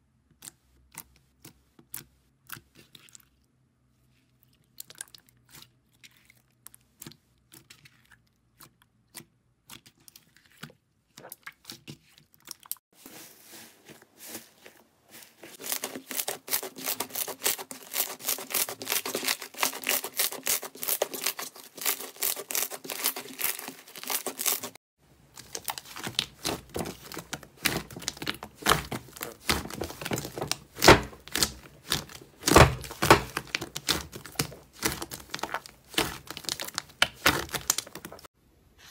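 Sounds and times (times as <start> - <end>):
hands kneading slime: 0.2 - 38.9
slime crackling and crinkling: 4.2 - 38.3.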